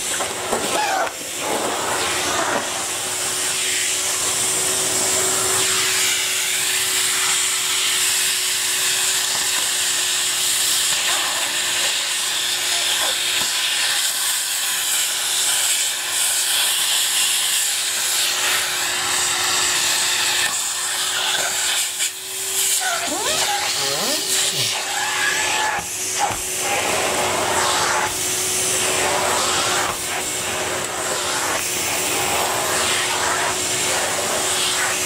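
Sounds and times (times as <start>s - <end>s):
vacuum cleaner sucking leaves: 0.0s - 35.0s.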